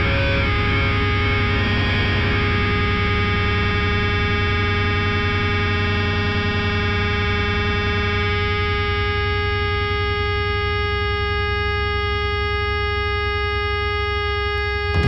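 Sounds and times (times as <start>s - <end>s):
electric guitar feedback: 0.0s - 15.0s
low amp hum: 0.0s - 15.0s.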